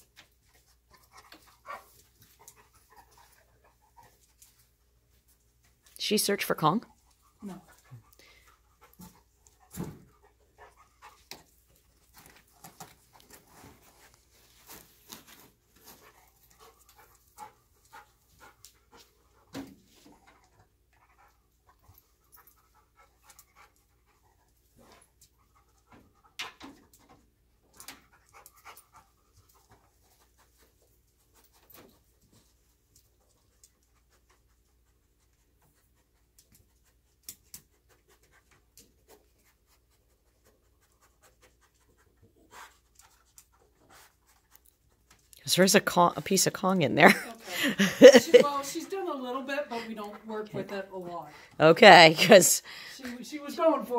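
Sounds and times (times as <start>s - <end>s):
faint clicks and scuffs: 0.0s - 6.1s, 6.9s - 45.8s
dog panting and sniffing: 0.0s - 53.0s.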